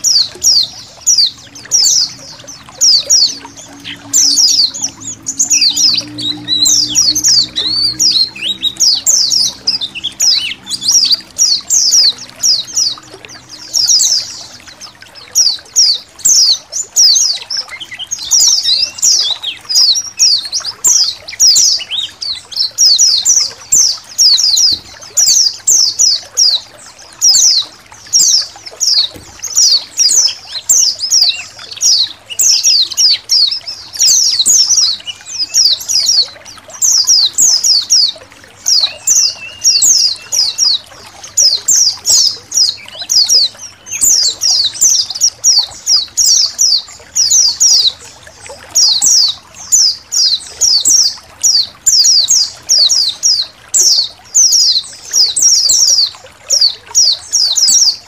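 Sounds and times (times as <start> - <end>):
flock of birds twittering: 0.0 - 58.0
trickling water: 0.0 - 58.0.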